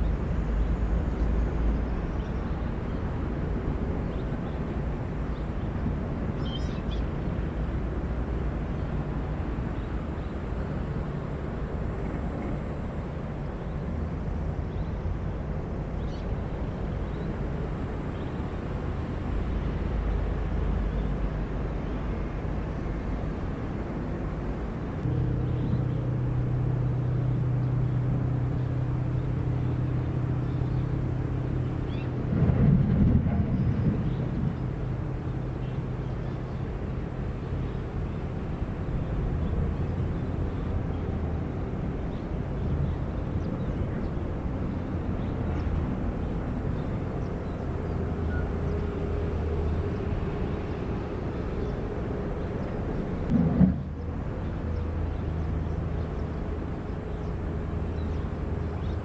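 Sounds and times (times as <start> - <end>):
louder steady engine note: 0.0 - 32.5, 33.5 - 59.0
construction machinery diesel engines: 0.0 - 59.0.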